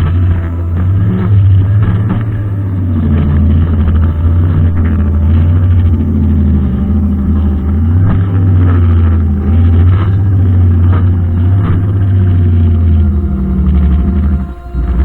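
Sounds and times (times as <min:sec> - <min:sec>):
brushcutter engine running: 0:00.0 - 0:15.0.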